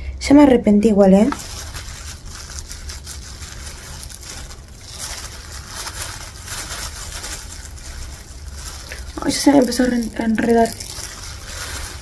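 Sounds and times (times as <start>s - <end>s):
plastic gloves crinkling: 0.7s - 12.0s
wet hair squishing: 1.2s - 12.0s.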